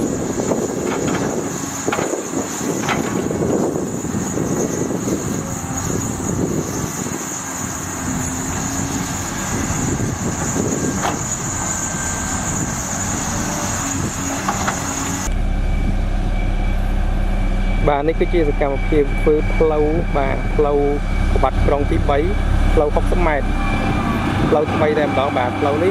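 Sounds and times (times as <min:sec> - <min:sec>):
heavy machine engine rumbling: 0:00.0 - 0:25.9
thin high whine: 0:00.0 - 0:25.9.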